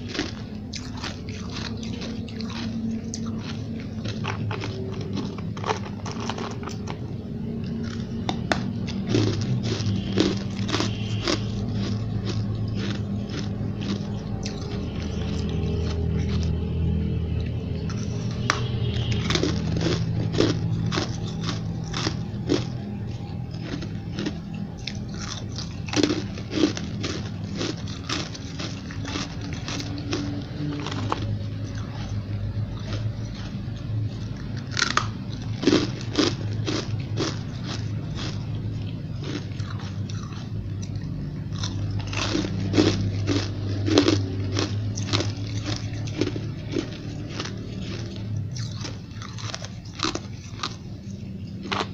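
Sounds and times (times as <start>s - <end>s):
person chewing ice crunches: 0.0s - 51.9s.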